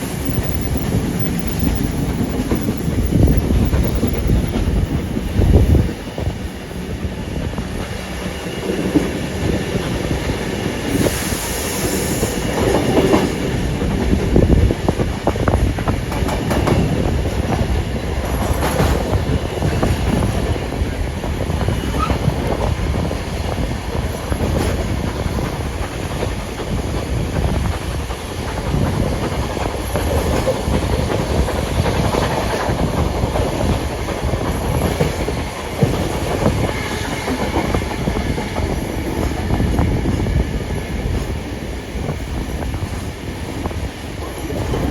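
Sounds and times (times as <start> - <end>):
train rolling noise: 0.0 - 44.9
train wheels clicking over rail joints: 0.0 - 44.9.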